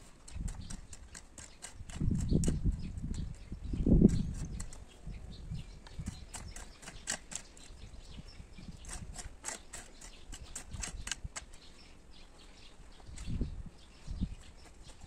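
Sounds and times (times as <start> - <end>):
hoe scraping dry soil: 0.0 - 15.0.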